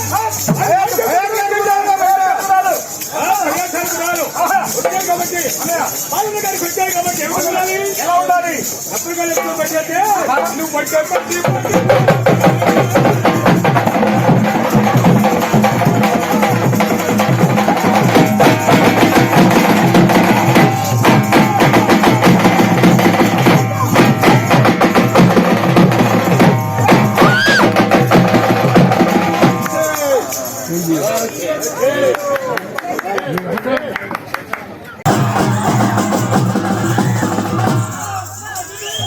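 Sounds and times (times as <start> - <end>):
percussion-driven music: 0.0 - 32.5, 35.0 - 39.0.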